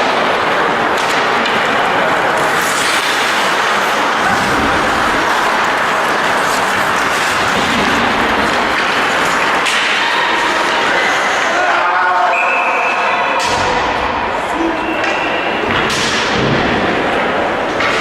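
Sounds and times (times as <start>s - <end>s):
ice hockey game noise: 0.0s - 18.0s.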